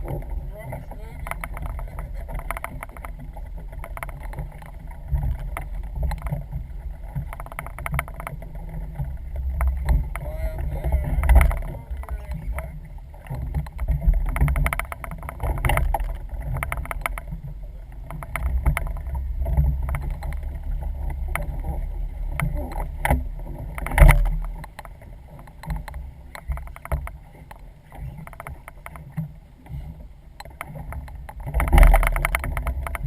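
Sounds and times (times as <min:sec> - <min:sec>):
wind and water rumble: 0:00.0 - 0:33.0.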